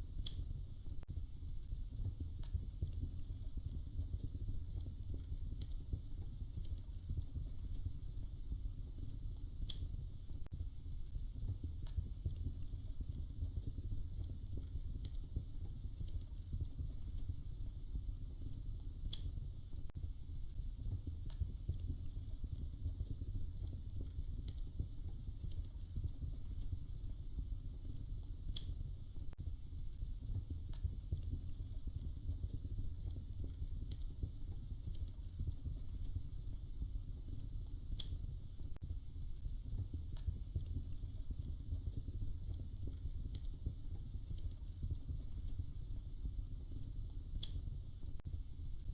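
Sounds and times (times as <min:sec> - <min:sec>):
fire low rumble: 0:00.0 - 0:48.9
wood fire crackles and pops: 0:00.0 - 0:48.9.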